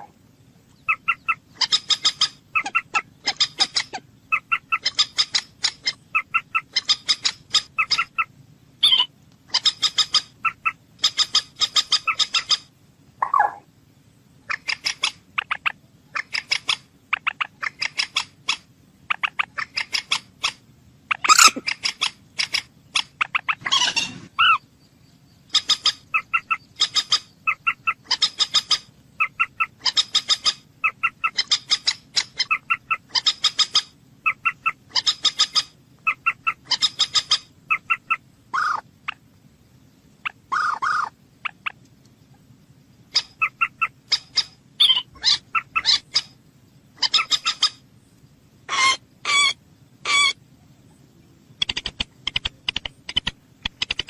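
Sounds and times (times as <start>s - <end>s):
bird calls: 0.0s - 13.7s, 14.4s - 39.3s, 40.2s - 47.9s, 48.6s - 54.0s
faint steady low hum: 0.0s - 54.0s.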